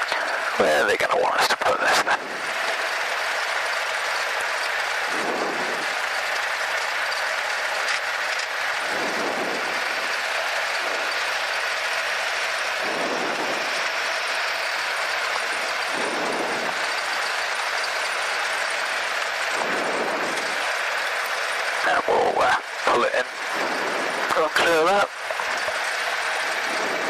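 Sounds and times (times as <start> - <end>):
propeller plane engine drone: 0.0 - 27.0.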